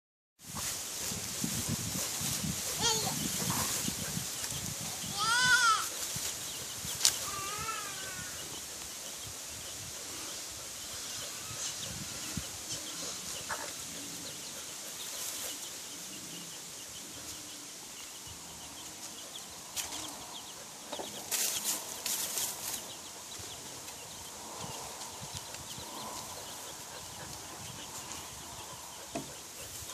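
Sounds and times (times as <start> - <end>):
rustle of dry leaves: 0.4 - 29.9
chicks peeping: 0.5 - 29.9.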